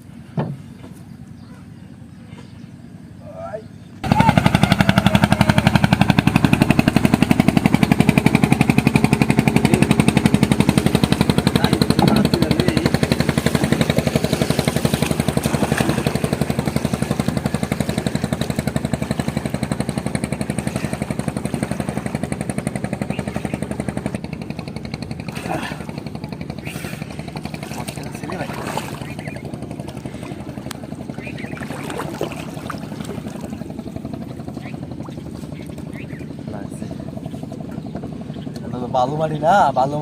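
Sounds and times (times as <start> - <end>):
small engine chugging: 0.0 - 40.0.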